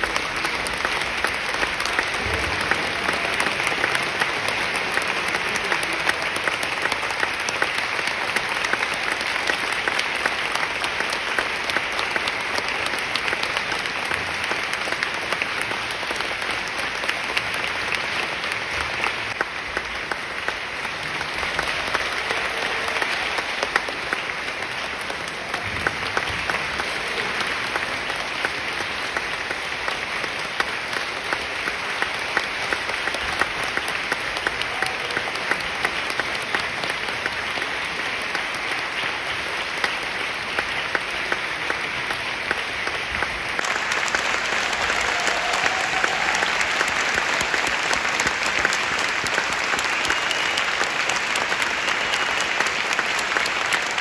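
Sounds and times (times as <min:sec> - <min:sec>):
audience applauding: 0:00.0 - 0:54.0.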